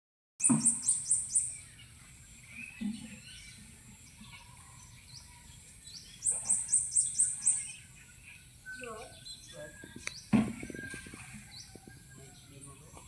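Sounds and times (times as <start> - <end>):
faint high bird chirps: 0.4 - 13.0.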